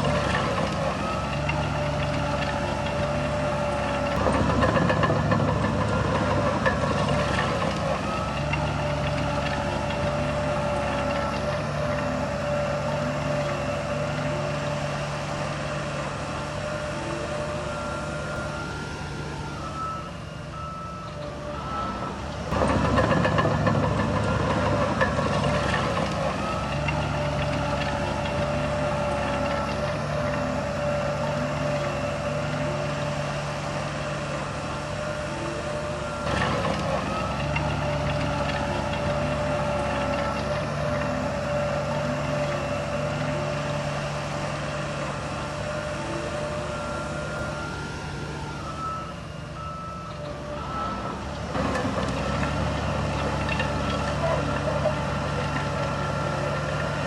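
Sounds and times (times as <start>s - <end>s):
heavy diesel machinery running: 0.0s - 57.0s
reversing alarm beeping: 0.0s - 57.0s.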